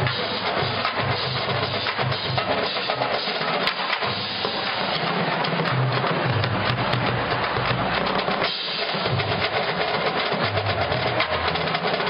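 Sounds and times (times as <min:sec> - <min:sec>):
marching band playing: 0:00.0 - 0:12.0
snare and bass drums: 0:00.0 - 0:12.0.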